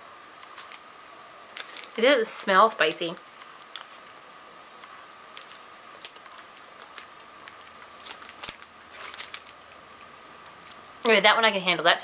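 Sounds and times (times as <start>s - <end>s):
faint steady high hum: 0.0s - 12.0s.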